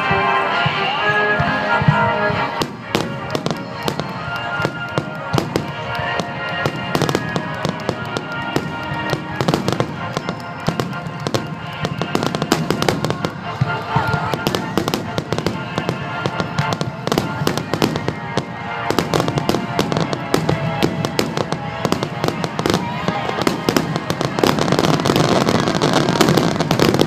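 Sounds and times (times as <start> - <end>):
music playing: 0.0 - 27.0
fireworks pops and crackles: 2.4 - 27.0.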